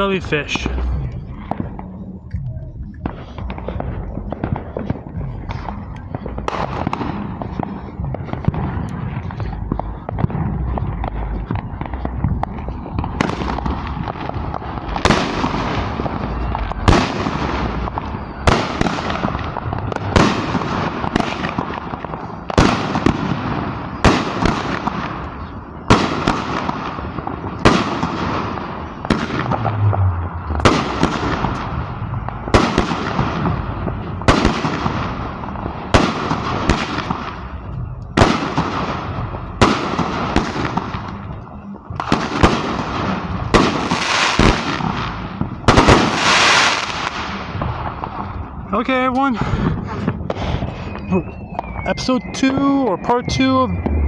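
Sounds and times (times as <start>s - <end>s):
continuous noisy rush: 0.0s - 54.0s
fireworks bangs: 0.0s - 54.0s.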